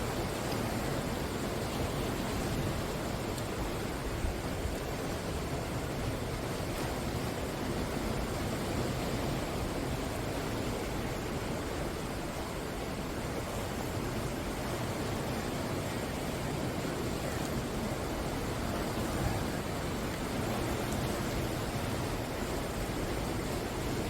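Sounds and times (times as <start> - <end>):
ocean surf washing ashore: 0.0 - 24.0.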